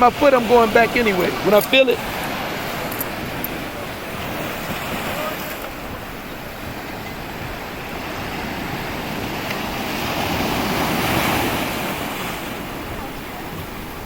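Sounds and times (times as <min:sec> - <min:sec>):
sea waves breaking: 0:00.0 - 0:14.0
wind on microphone: 0:00.0 - 0:14.0.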